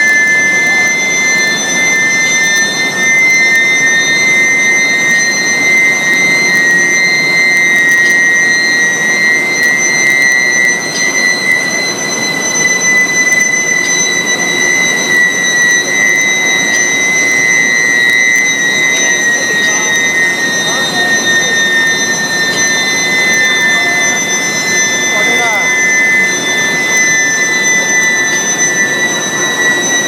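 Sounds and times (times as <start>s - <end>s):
high-pitched furnace whine: 0.0s - 30.0s.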